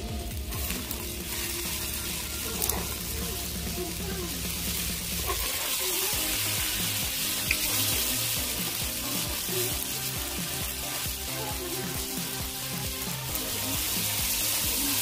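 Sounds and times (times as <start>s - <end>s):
background music: 0.0s - 15.0s
rice sizzling on a griddle: 0.0s - 15.0s
spatula stirring and pressing: 0.5s - 15.0s.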